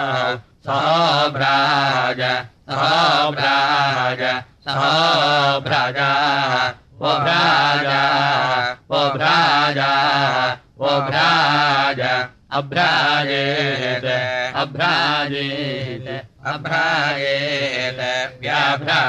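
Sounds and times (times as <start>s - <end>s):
person chanting: 0.0s - 19.0s.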